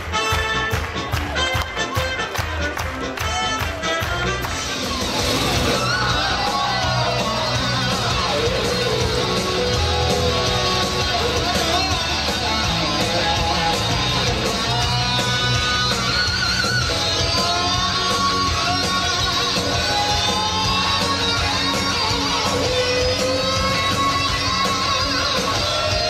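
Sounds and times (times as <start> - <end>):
rock music with electric guitar: 0.0 - 26.0.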